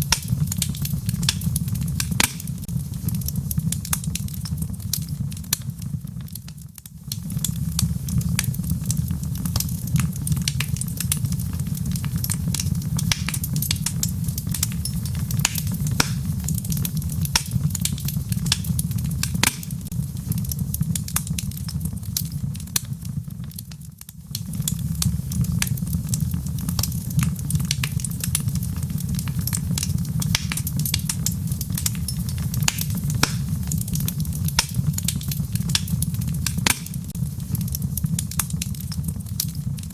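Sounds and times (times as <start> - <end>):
low rumble of burning logs: 0.0 - 39.9
wood fire crackling and popping: 0.0 - 39.9.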